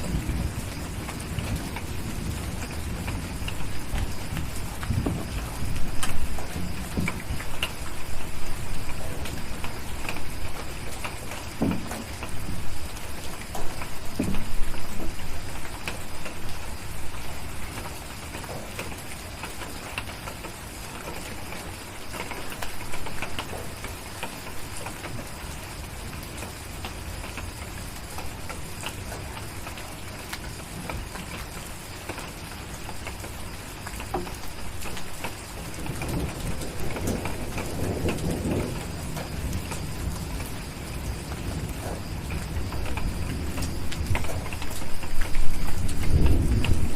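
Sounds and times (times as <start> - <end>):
rumble of thunder: 0.0 - 46.9
steady rain: 0.0 - 46.9.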